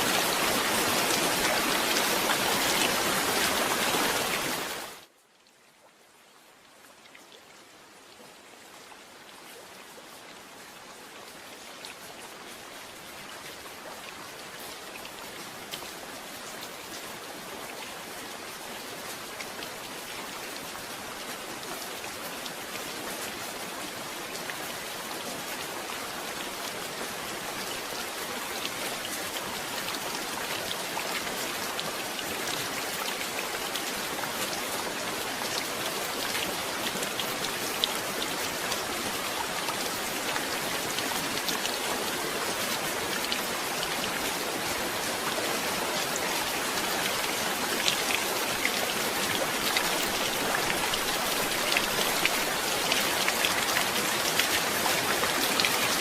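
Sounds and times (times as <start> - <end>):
individual raindrops: 0.0 - 56.0
steady rain falling: 0.0 - 56.0.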